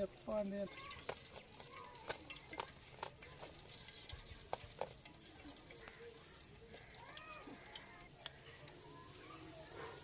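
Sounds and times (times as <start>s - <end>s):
wire skimmer ticks and taps: 0.0s - 8.8s
hot oil sizzling: 0.0s - 10.0s.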